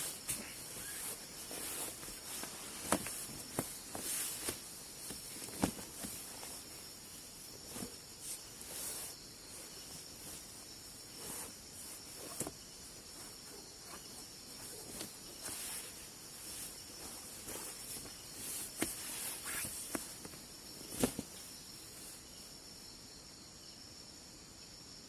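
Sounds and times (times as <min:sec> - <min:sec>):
soft rustles: 0:00.0 - 0:22.5
crickets chirring: 0:00.0 - 0:25.0.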